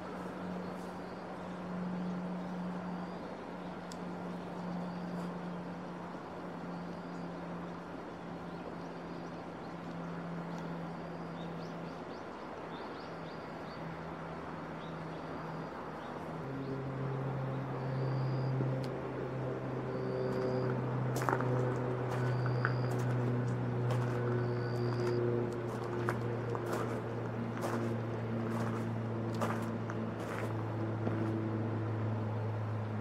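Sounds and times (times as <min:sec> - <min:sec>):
vehicle engine hum: 0:00.0 - 0:33.0.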